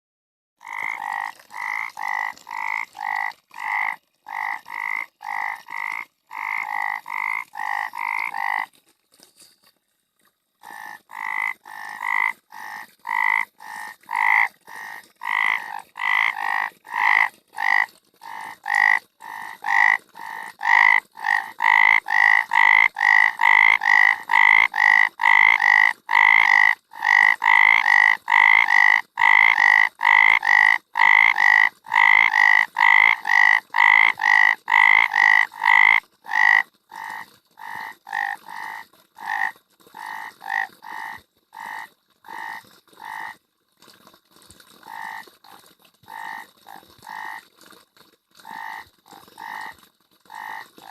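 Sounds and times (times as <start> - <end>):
frog croaking: 0.6 - 8.7, 10.6 - 43.4, 46.1 - 47.4, 48.4 - 50.9.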